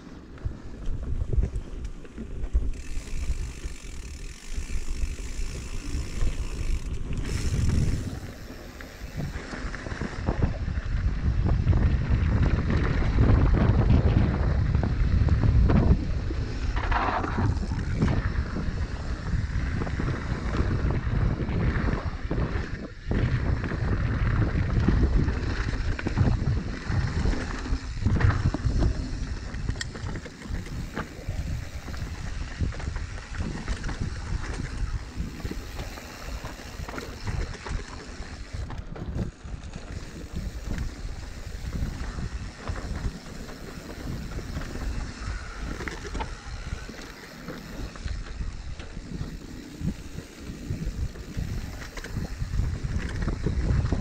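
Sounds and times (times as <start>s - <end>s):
bike tyres rumbling on dirt: 0.0s - 54.0s
wind buffeting microphone: 0.0s - 54.0s
bike rattling over bumps: 0.4s - 54.0s.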